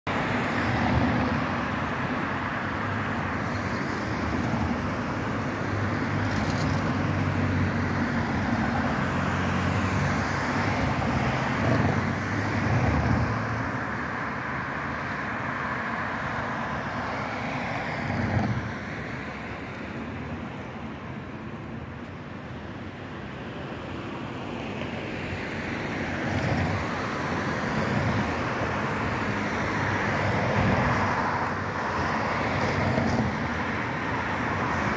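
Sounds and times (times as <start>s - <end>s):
road traffic passing: 0.0s - 34.9s.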